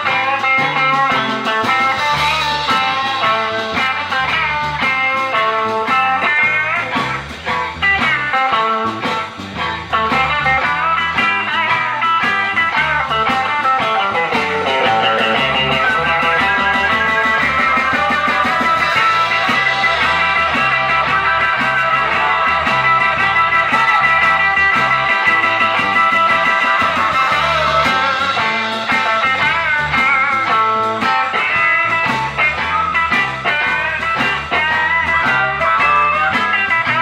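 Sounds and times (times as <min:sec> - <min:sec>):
electric guitar lead line: 0:00.0 - 0:37.0
live blues band playing: 0:00.0 - 0:37.0.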